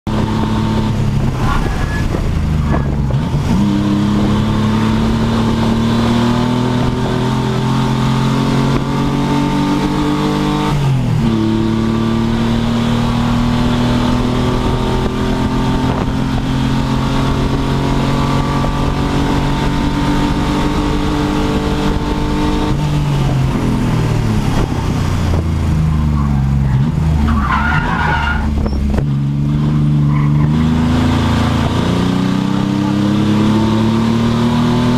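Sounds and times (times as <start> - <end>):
race car engine accelerating: 0.1 - 34.9.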